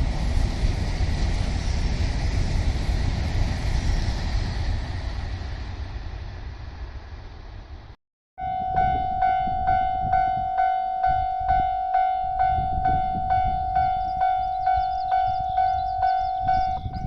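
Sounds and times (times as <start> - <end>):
train rumbling past on track: 0.0 - 17.0.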